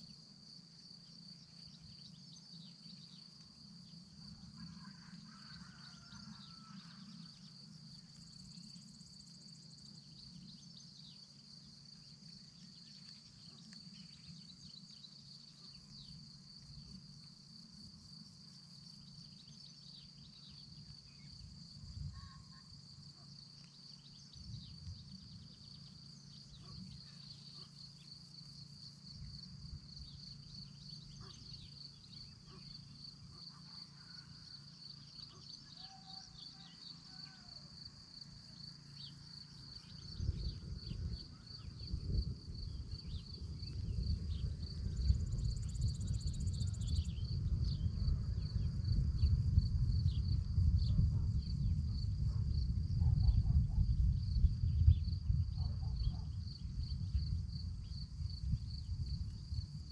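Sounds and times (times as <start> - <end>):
insects trilling in grass: 0.0 - 52.9, 54.0 - 59.9.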